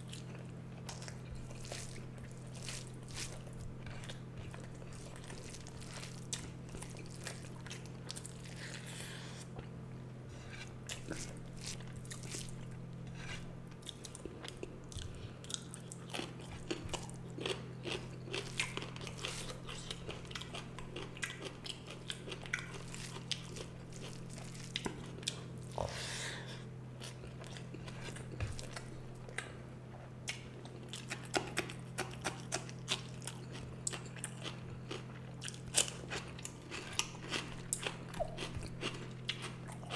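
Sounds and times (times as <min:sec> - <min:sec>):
chewing with wet mouth smacks: 0:00.0 - 0:09.7, 0:10.8 - 0:26.0, 0:27.0 - 0:39.9
steady low hum: 0:00.0 - 0:39.9.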